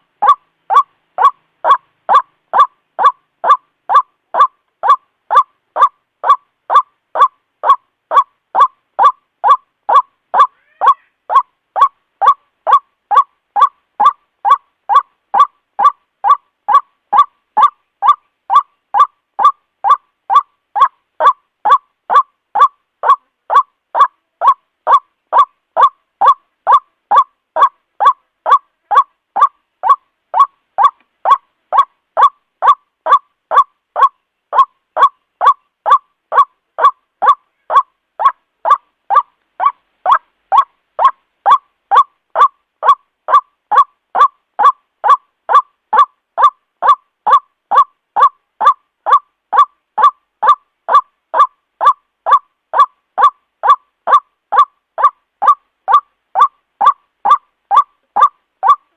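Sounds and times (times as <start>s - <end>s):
waterhen calling: 0.0s - 58.9s.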